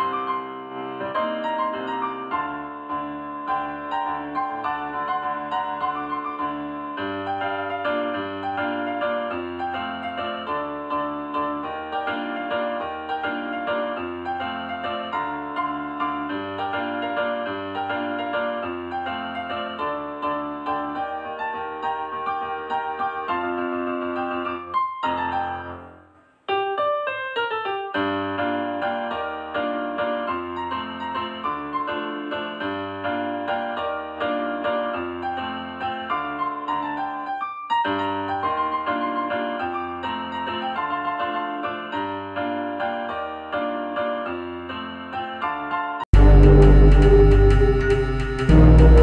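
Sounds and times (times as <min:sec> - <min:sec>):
piano music: 0:00.0 - 0:49.0.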